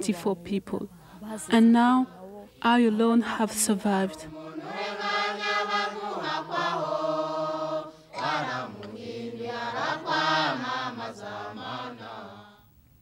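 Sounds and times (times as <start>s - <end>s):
voices chanting: 0.0s - 12.7s.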